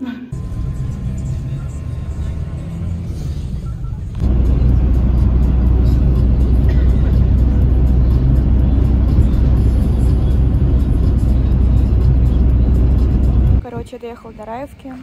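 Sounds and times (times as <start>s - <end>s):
minibus engine rumble: 0.3s - 15.0s
road noise: 0.3s - 15.0s.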